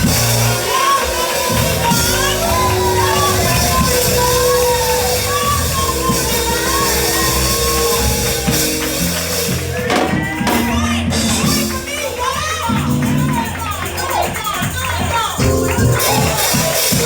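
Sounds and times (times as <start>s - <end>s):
held chords: 0.0s - 17.0s
voices singing and calling out: 0.0s - 17.0s.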